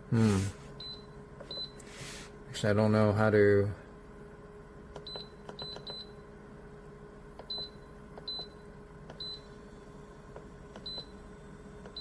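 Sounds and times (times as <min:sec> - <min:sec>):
compressor hum: 0:00.0 - 0:12.0.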